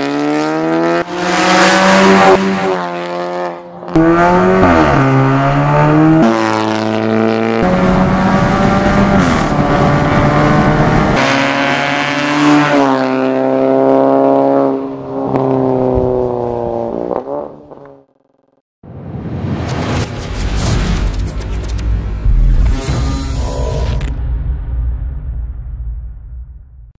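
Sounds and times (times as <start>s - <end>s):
car engine at high revs: 0.0s - 18.0s, 19.7s - 24.2s.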